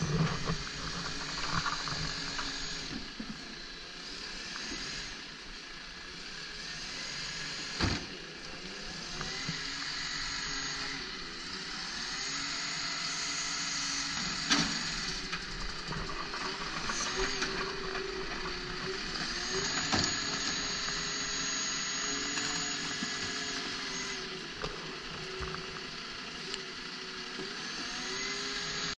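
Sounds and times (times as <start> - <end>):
hydraulic whine and machine hum: 0.0 - 28.9.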